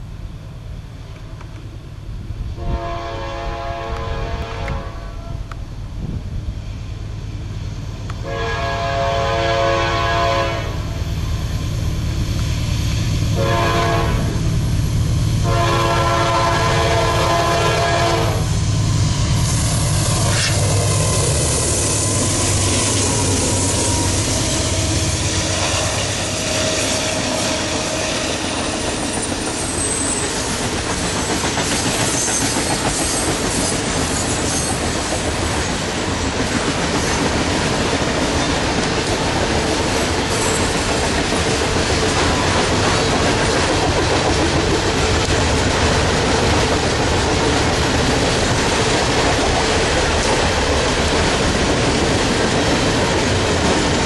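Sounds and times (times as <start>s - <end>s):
diesel locomotive passing: 0.0s - 54.0s
train wheels rumbling on rails: 0.0s - 54.0s.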